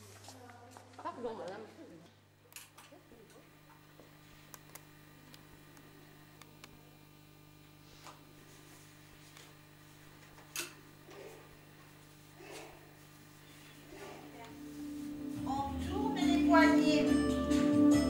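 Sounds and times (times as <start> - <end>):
low steady hum: 0.4 - 17.7.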